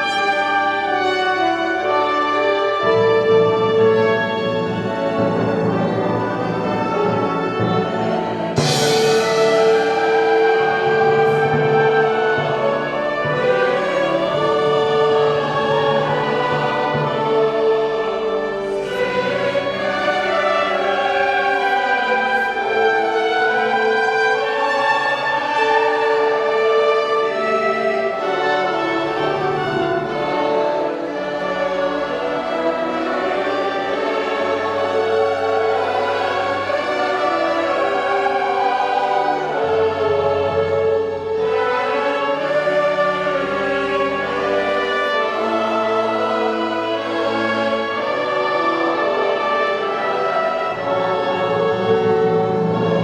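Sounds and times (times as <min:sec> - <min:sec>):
choir singing: 0:00.0 - 0:53.0
orchestral accompaniment: 0:00.0 - 0:53.0.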